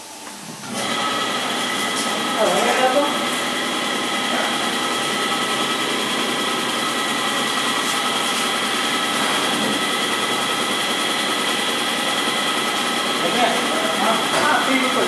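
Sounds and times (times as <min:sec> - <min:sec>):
machine hum and hiss: 0:00.0 - 0:15.0.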